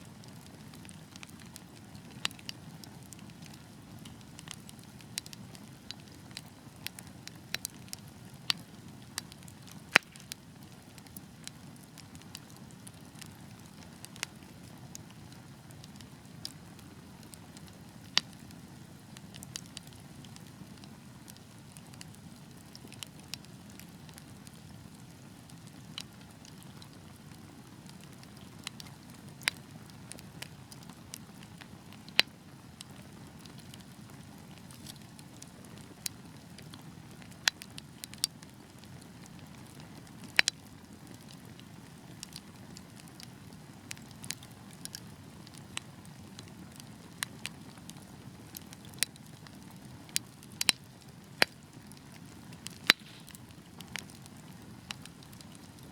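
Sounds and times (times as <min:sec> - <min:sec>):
wood fire crackling and popping: 0:00.1 - 0:55.9.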